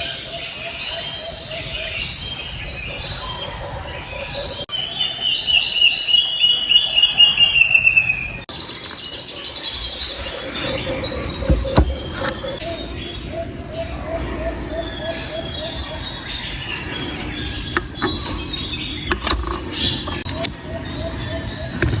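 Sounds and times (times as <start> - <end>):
birds calling and singing: 0.0 - 22.0.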